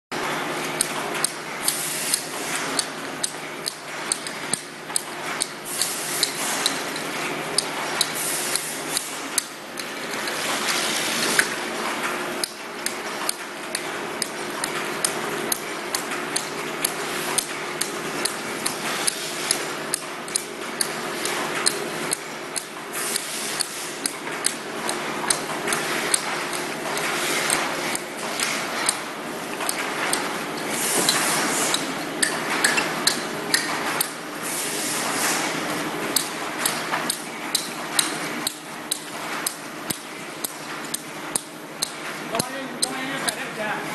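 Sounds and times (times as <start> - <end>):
motor and conveyor hum: 0.1 - 43.9
sharp mechanical clicks: 0.6 - 10.6, 11.2 - 34.3, 36.0 - 43.5.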